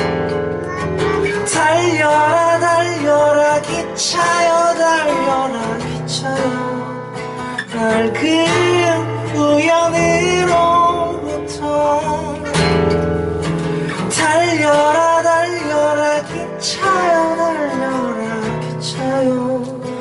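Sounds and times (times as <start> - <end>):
strummed acoustic guitar: 0.0 - 20.0
man singing slow song: 0.7 - 13.0, 13.8 - 20.0.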